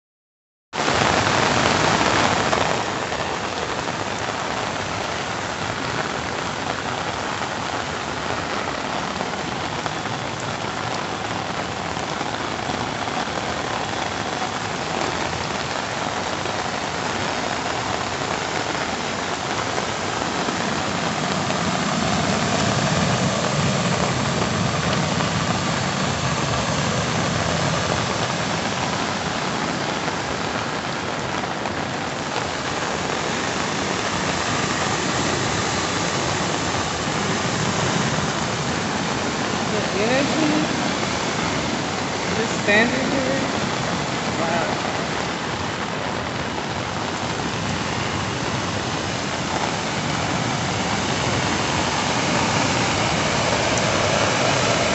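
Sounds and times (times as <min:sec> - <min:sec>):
heavy rain: 0:00.7 - 0:54.9
floodwater rushing through channel: 0:00.8 - 0:54.9.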